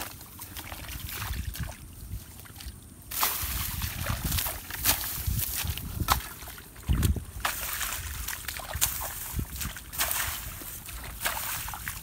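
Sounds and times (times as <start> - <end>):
splashing in muddy water: 0.0 - 12.0.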